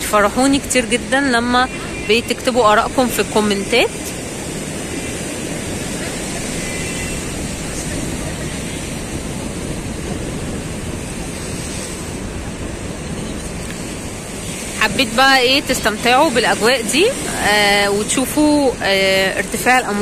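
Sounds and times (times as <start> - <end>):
sea surf breaking on concrete: 0.0 - 20.0.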